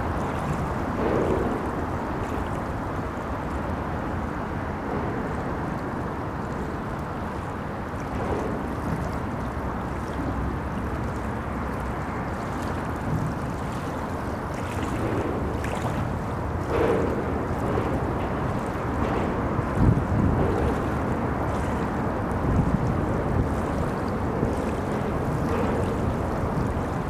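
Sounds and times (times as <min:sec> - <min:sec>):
moving water: 0:00.0 - 0:27.0.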